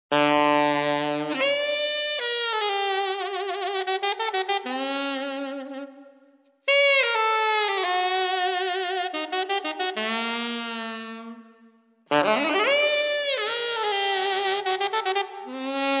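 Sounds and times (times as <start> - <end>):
saxophone playing: 0.1 - 16.0.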